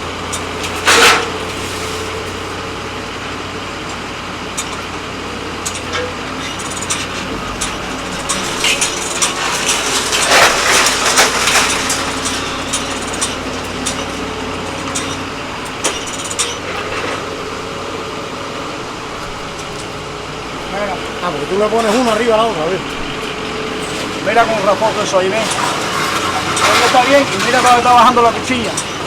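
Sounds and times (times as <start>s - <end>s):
crusher engine running: 0.0s - 29.0s
metal crunching: 0.0s - 29.0s
metal clanks and cracks: 0.3s - 2.5s, 4.5s - 5.0s, 5.6s - 17.8s, 18.5s - 29.0s.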